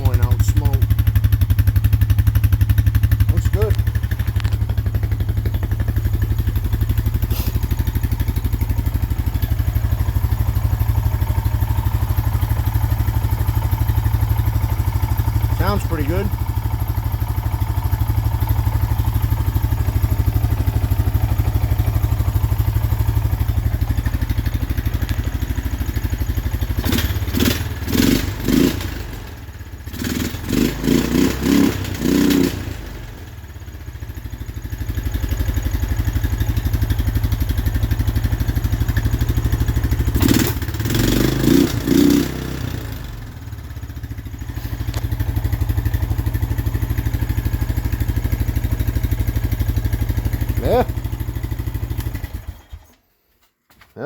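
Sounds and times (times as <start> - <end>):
engine idling and revving: 0.0 - 53.0.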